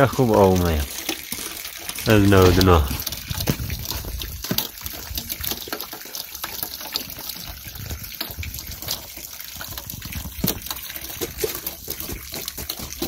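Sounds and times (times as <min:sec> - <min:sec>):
water pouring into a puddle: 0:00.0 - 0:13.0.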